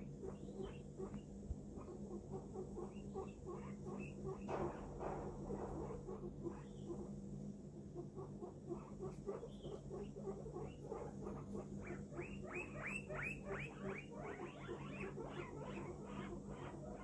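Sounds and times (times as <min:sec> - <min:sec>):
guinea pig squeaking: 0:00.0 - 0:17.0
steady low hum: 0:00.0 - 0:17.0.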